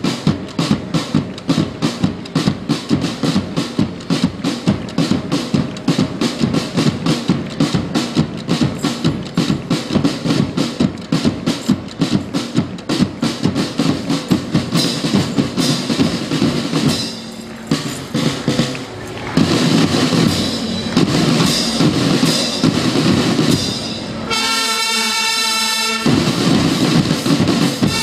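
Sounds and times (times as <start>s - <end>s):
marching drum cadence: 0.0s - 28.0s.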